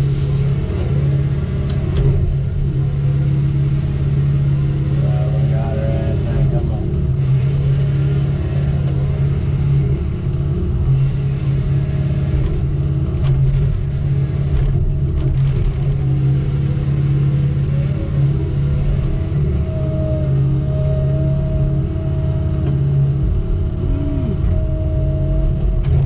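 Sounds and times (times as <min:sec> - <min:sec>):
diesel engine droning: 0:00.0 - 0:26.0.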